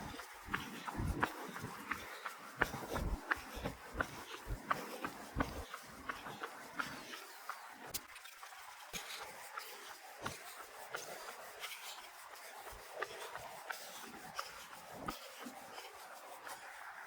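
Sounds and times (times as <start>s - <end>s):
footsteps on pavement: 0.0s - 16.7s.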